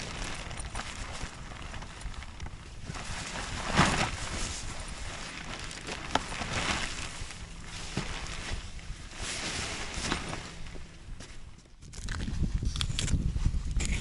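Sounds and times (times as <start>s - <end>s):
tent fabric rustling and flapping: 0.0s - 14.0s.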